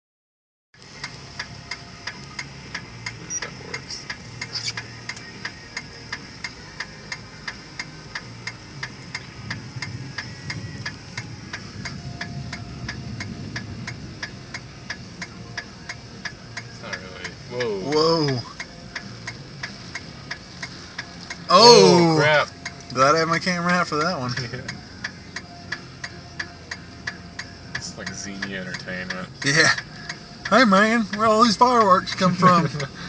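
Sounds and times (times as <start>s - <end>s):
car indicator clicking: 0.8s - 33.0s
low car rumble: 0.8s - 33.0s.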